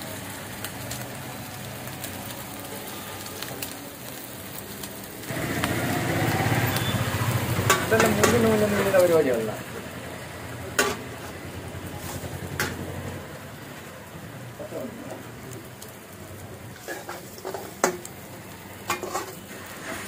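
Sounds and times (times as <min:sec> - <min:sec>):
chicken sizzling in a wok: 0:00.0 - 0:20.0.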